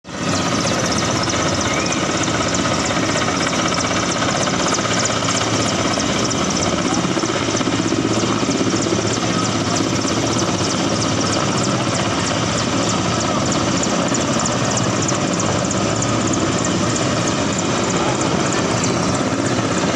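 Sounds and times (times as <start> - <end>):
helicopter rotor chop: 0.1 - 19.9.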